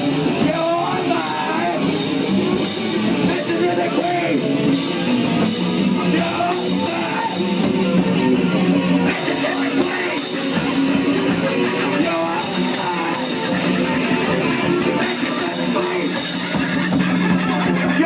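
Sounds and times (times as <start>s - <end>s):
bass guitar: 0.0s - 18.0s
drum kit: 0.0s - 18.0s
electric guitar: 0.0s - 18.0s.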